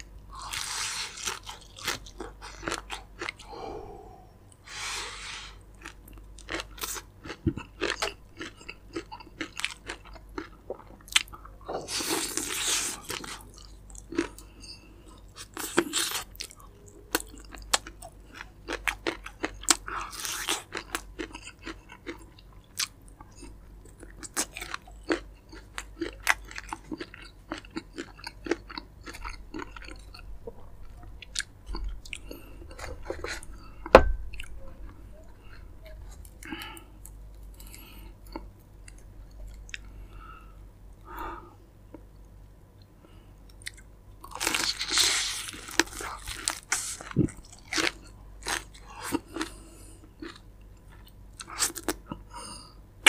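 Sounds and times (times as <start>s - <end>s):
chewing crispy fried chicken: 0.0s - 3.6s, 5.5s - 33.8s, 34.4s - 40.4s, 42.8s - 52.8s.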